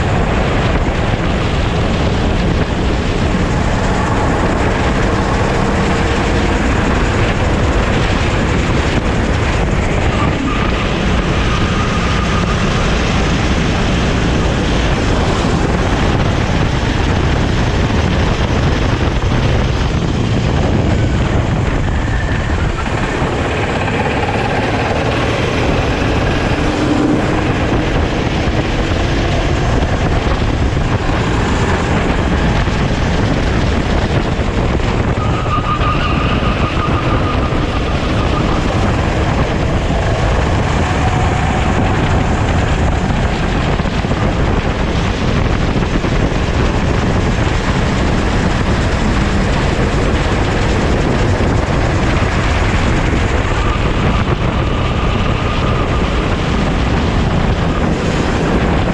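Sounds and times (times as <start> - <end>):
kart engine running hard: 0.0 - 58.9
wind and road noise: 0.0 - 58.9.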